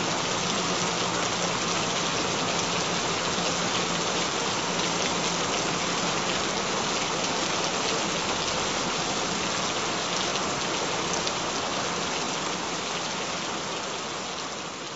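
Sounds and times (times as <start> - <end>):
steady rain hiss: 0.0 - 14.9.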